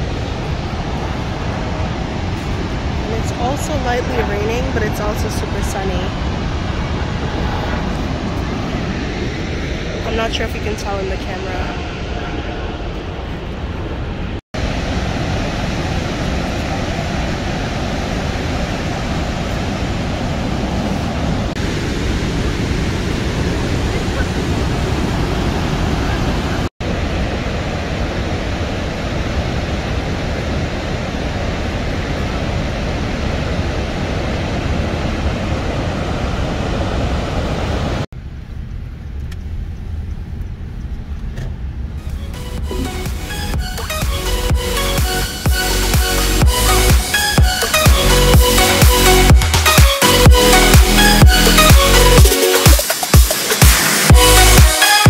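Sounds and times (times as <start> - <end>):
waterfall roaring: 0.0 - 38.0, 42.2 - 55.0.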